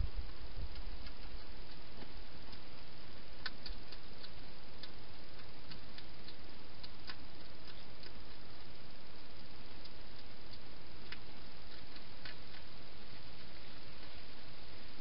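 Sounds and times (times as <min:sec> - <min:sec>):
background hiss: 0:00.0 - 0:15.0
hedgehog chewing food: 0:00.0 - 0:15.0.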